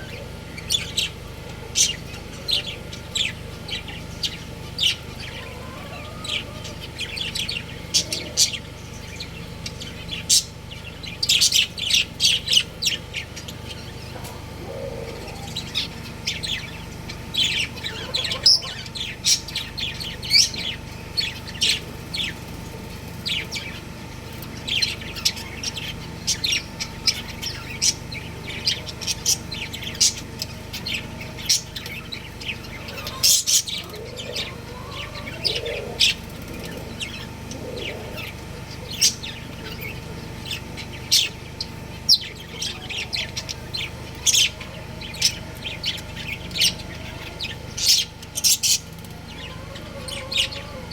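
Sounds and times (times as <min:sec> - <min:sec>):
budgerigars chirping: 0:00.0 - 0:50.9
steady low hum: 0:00.0 - 0:50.9.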